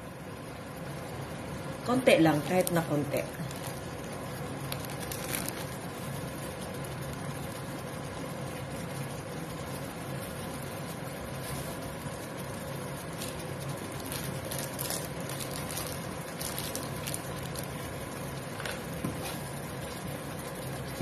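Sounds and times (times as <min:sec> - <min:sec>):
sauce bubbling in a frying pan: 0:00.0 - 0:21.0
steady low hum: 0:00.0 - 0:21.0.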